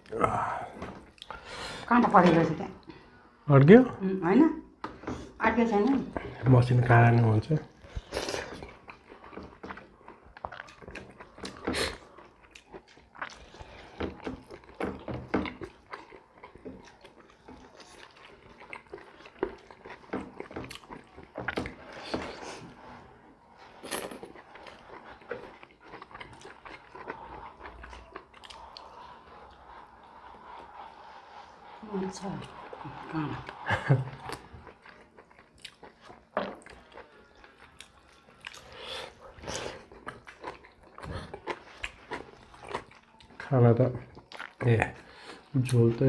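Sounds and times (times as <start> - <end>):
wet chewing and lip-smacking: 7.0 - 22.8, 23.5 - 45.9.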